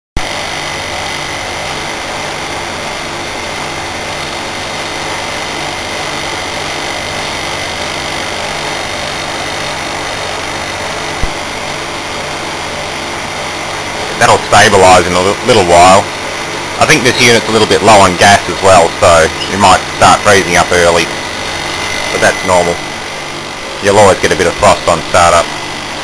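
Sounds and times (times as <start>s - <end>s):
air conditioner humming with whine: 0.2s - 26.0s.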